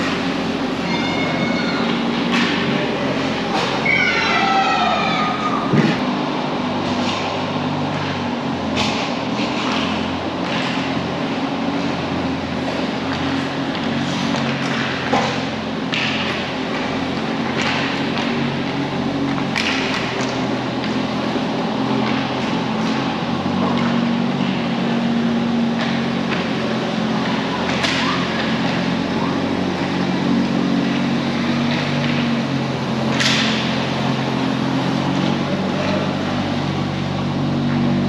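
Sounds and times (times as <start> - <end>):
low mechanical hum: 0.0 - 38.0
noisy wash: 0.0 - 38.0.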